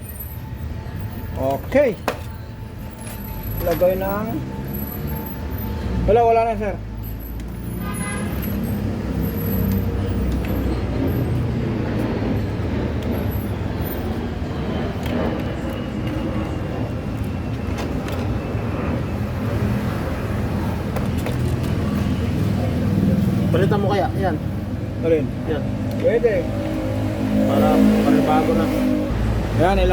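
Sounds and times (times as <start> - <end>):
road traffic rumble: 0.0 - 29.9.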